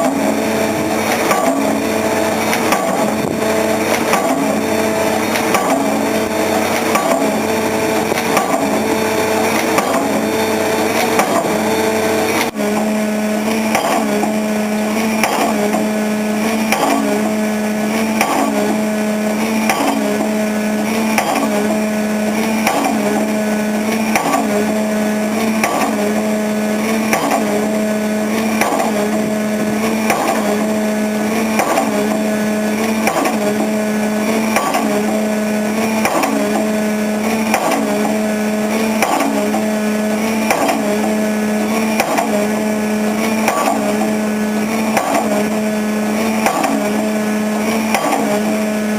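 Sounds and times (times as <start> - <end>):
engine droning: 0.0 - 48.9
pile driver hammering: 0.0 - 48.9.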